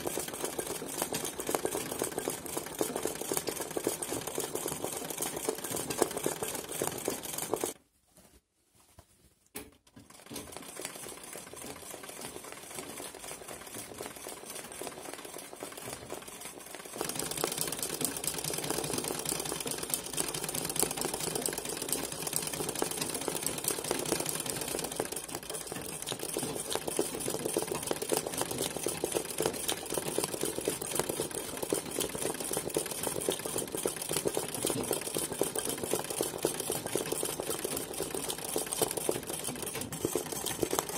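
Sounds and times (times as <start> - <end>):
sewing machine rattling: 0.0 - 7.8, 9.8 - 40.9.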